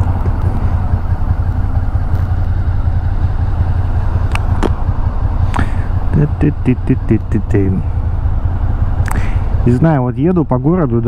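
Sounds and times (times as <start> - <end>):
motorcycle engine running at low revs: 0.0 - 11.0.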